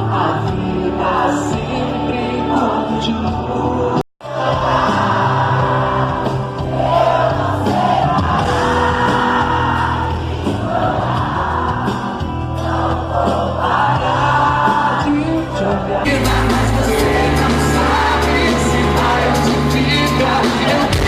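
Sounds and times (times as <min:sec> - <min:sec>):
audience singing along: 0:00.0 - 0:21.0
live band playing: 0:00.0 - 0:21.0.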